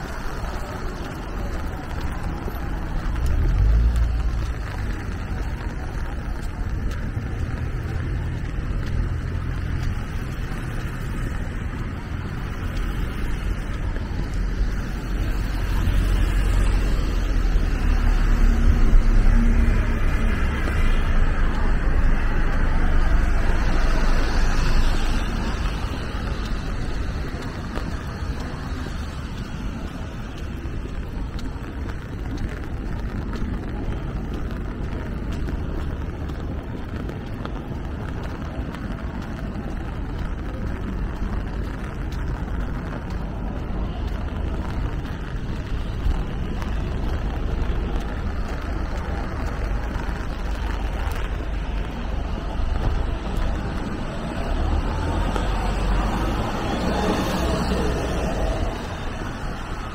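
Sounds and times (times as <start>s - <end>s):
engines rumbling: 0.0s - 59.9s
tyres hissing on wet road: 0.0s - 59.9s.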